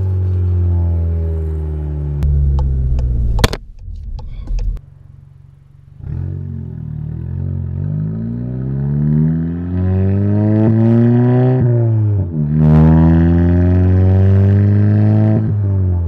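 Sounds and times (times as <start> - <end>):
car exhaust drone: 0.0 - 16.0.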